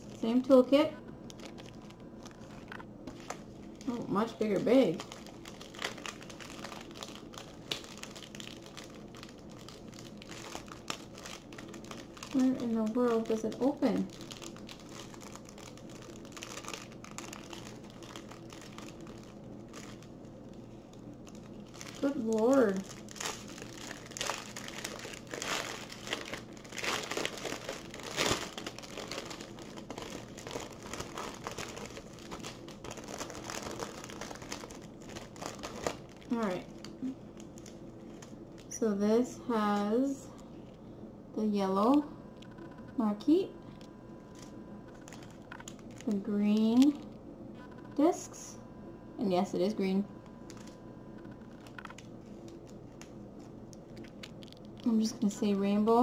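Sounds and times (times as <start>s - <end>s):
plastic bag crinkling: 0.0s - 38.8s, 43.7s - 47.2s, 50.4s - 55.5s.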